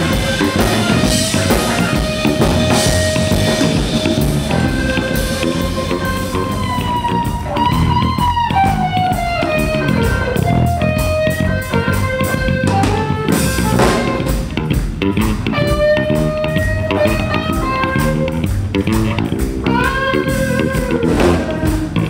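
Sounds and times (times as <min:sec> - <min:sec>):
drum kit: 0:00.0 - 0:22.0
electric guitar lead: 0:00.0 - 0:22.0.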